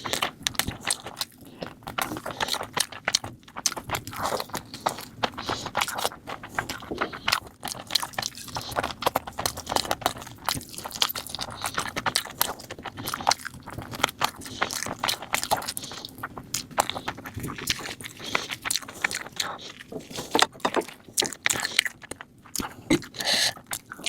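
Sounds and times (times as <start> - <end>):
wet chewing with mouth smacks: 0.0 - 24.0.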